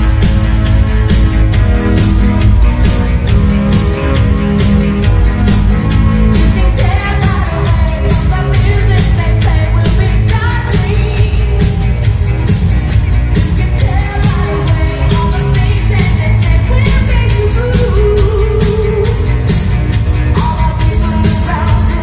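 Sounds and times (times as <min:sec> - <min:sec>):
dance music over sound system: 0:00.0 - 0:22.0.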